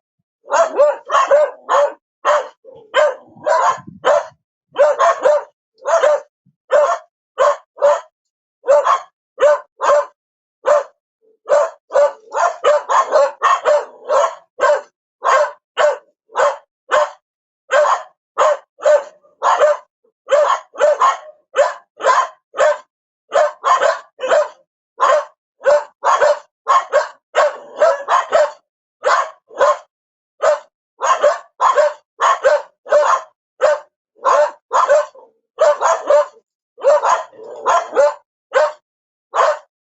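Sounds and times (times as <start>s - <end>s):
dog barking: 0.4s - 39.7s.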